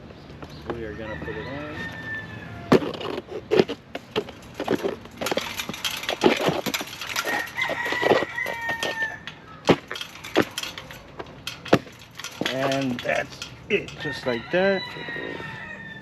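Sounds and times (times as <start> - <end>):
tire squeaking and scraping on rim: 0.0 - 16.0.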